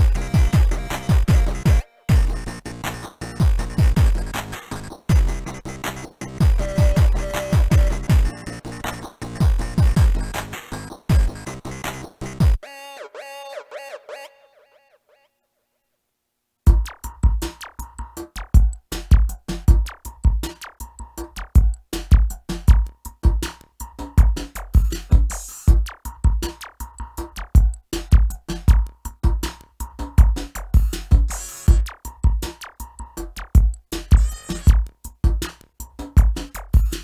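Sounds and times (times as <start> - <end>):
drum machine beat: 0.0 - 12.6, 16.7 - 37.0.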